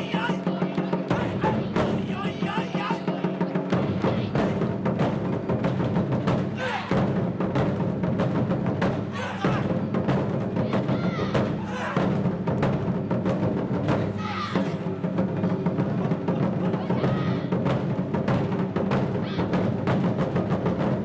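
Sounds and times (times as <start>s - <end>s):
taiko drums played fast: 0.0s - 21.0s.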